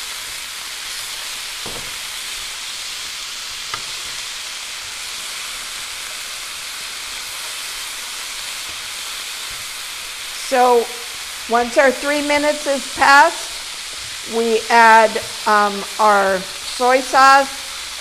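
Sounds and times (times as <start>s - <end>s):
meat and vegetables sizzling: 0.0s - 18.0s.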